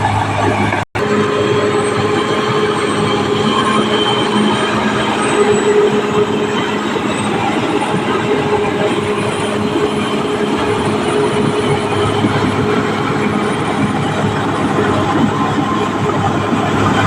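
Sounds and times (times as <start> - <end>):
diesel engine: 0.0 - 17.0
steel tracks clattering: 0.0 - 17.0
track squeals: 0.0 - 17.0.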